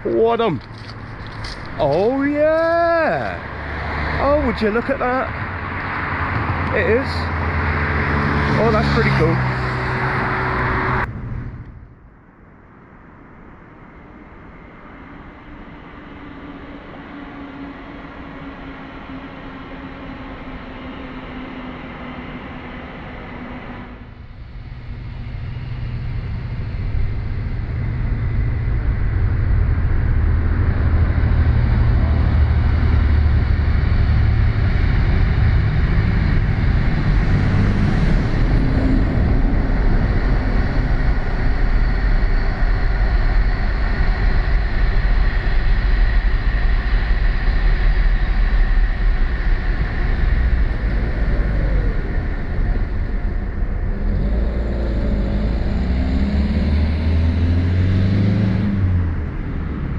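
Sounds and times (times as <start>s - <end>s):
train rumbling past: 0.0s - 12.2s, 14.5s - 59.9s.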